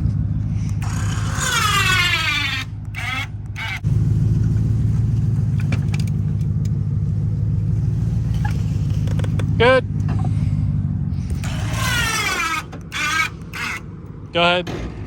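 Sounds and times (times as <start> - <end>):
winch motor running: 0.1 - 14.6.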